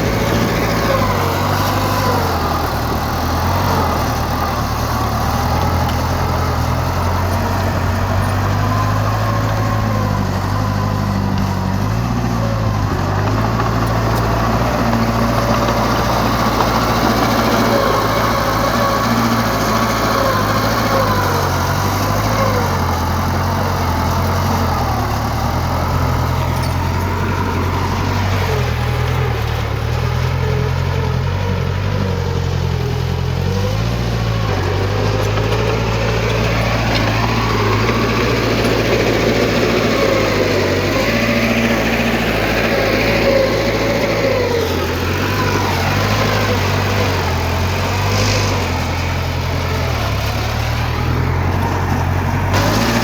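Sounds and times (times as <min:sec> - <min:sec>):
diesel machinery engine drone: 0:00.0 - 0:53.0.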